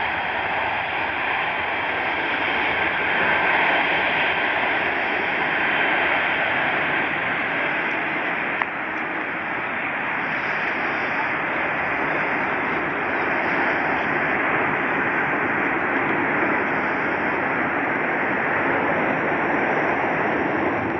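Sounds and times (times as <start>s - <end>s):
jet engines at takeoff power: 0.0s - 20.9s.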